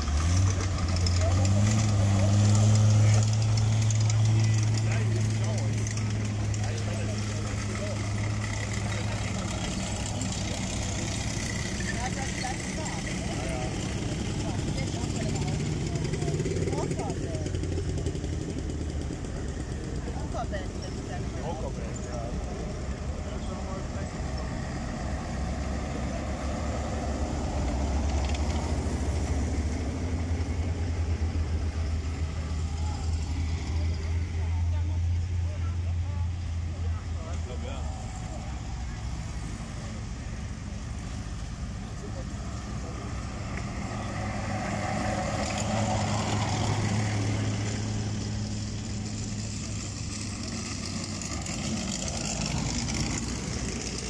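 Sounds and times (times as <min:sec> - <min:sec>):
motorcycle engine: 0:00.0 - 0:54.0
tracked vehicle engine rumbling: 0:00.0 - 0:54.0.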